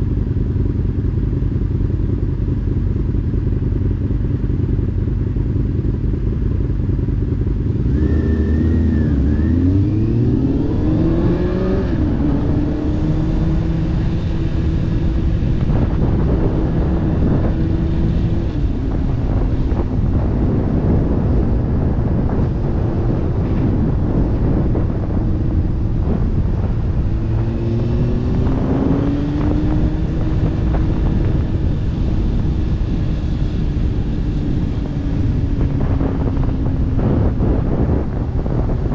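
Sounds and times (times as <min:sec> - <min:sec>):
wind rush on microphone: 0:00.0 - 0:38.9
motorcycle engine revving: 0:00.3 - 0:38.9.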